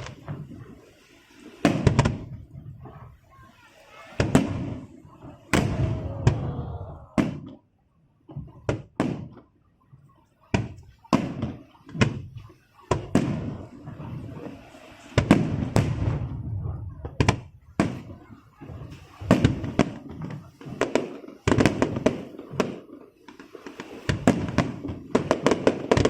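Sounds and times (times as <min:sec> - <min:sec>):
fireworks shells booming: 0:00.0 - 0:07.7, 0:08.3 - 0:26.0.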